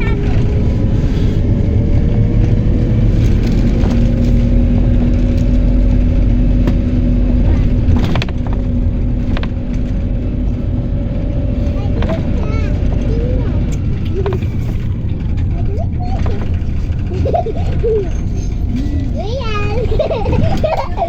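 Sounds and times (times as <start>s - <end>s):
bus engine and road rumble: 0.0s - 21.0s
low hum: 0.0s - 21.0s.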